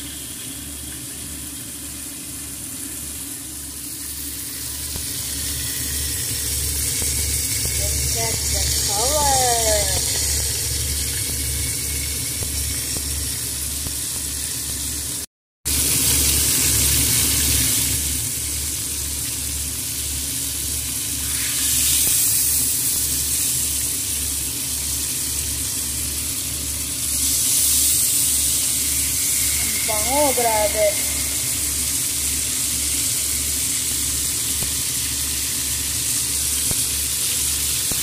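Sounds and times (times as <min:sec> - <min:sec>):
steak sizzling in a pan: 0:04.0 - 0:38.0.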